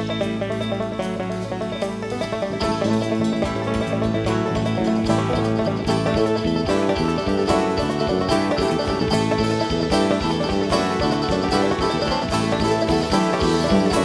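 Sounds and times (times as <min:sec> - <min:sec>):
band playing: 0:00.0 - 0:14.0
drum kit: 0:00.0 - 0:14.0
guitars: 0:00.0 - 0:14.0
picked banjo: 0:00.0 - 0:14.0.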